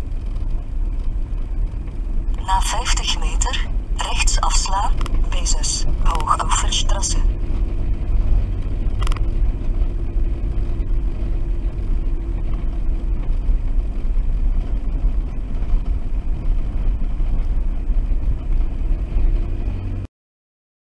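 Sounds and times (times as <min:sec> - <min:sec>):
car engine and tyres rumbling: 0:00.0 - 0:20.1.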